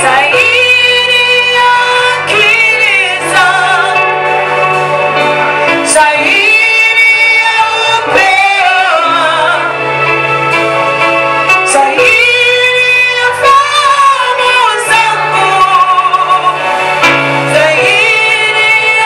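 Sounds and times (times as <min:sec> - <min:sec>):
low musical accompaniment: 0:00.0 - 0:19.0.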